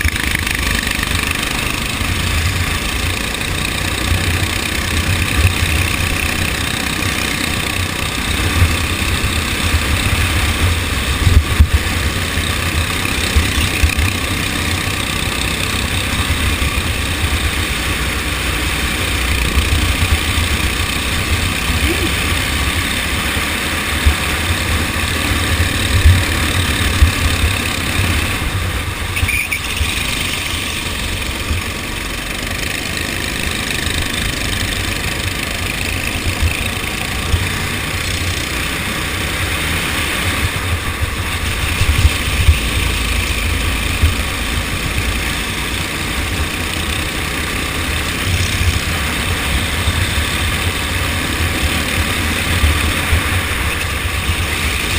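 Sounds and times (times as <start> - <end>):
go-kart engine running: 0.0 - 54.9.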